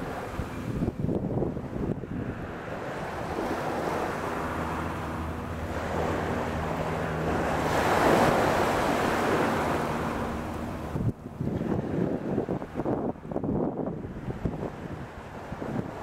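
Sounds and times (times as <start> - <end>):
small waves breaking on sand: 0.0 - 16.0.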